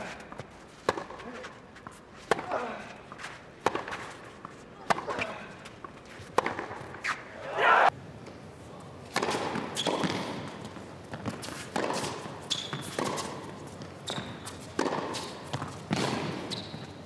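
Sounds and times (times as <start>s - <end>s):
racket hitting tennis ball: 0.0s - 7.4s, 9.1s - 16.8s
shoes squeaking on court: 0.0s - 7.4s, 9.6s - 17.0s.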